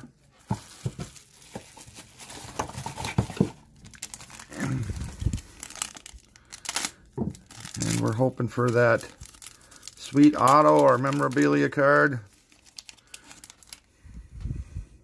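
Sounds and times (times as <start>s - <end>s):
foil packs crinkling: 0.1s - 14.0s.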